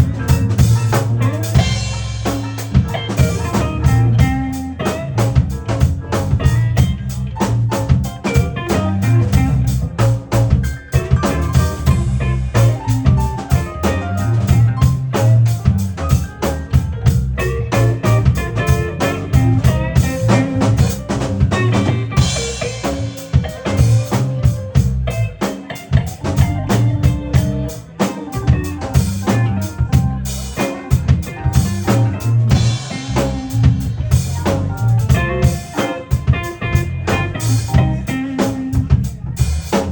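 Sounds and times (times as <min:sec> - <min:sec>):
drum beat with snare: 0:00.0 - 0:39.9
keyboard melody: 0:00.0 - 0:39.9.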